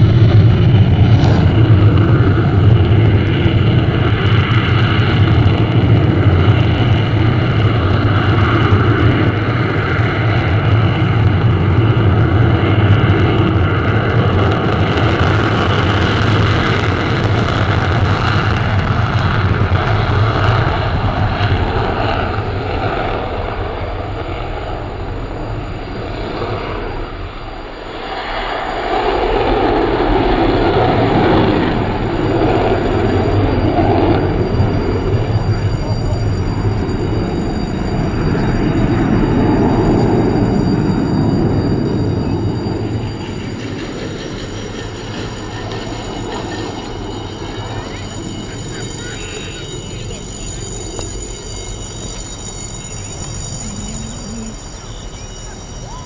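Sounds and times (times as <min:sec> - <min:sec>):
jet engine taking off: 0:00.0 - 0:56.0.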